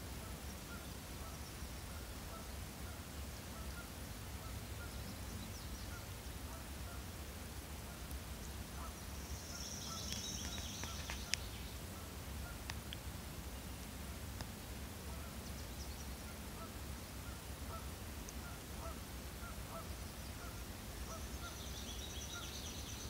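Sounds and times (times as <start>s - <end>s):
faint bird calls: 0.2s - 7.1s, 8.7s - 12.8s, 15.1s - 23.0s.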